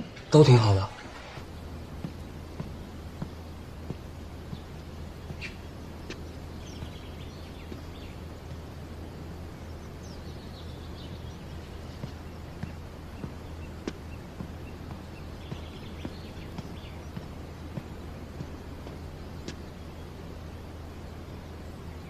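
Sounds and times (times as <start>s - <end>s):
faint bird chirps and trills: 0.0s - 22.0s
steady low hum: 0.0s - 22.0s.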